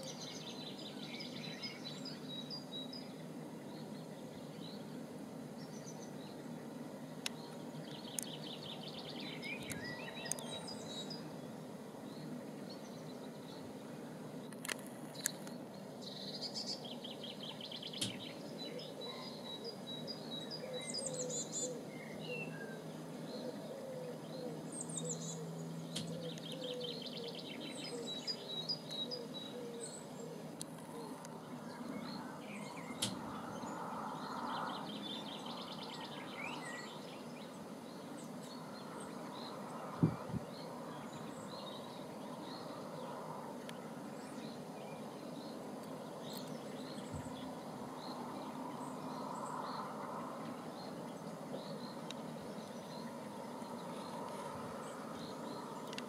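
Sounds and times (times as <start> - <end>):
low background noise: 0.0 - 56.0
songbirds singing with trills: 0.0 - 56.0.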